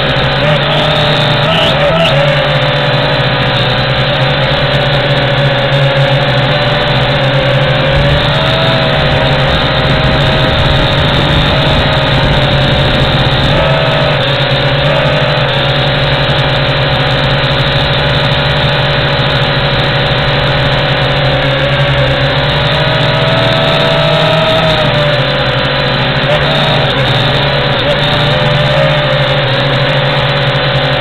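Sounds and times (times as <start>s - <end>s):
quadcopter motors whining: 0.0s - 31.0s.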